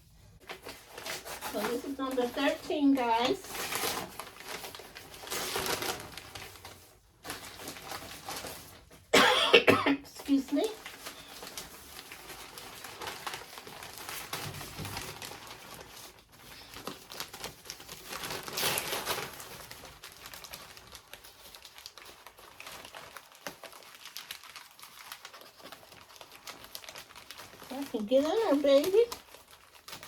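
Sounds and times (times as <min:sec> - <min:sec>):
packaging crinkling and rustling: 0:00.0 - 0:09.1, 0:10.1 - 0:30.0.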